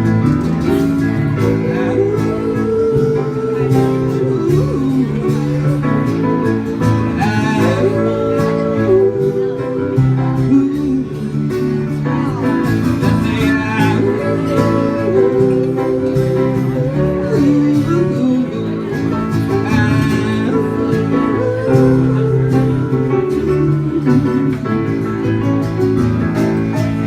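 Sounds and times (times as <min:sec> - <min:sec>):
country band instrumental: 0:00.0 - 0:27.0
sliding lead guitar melody: 0:00.0 - 0:27.0.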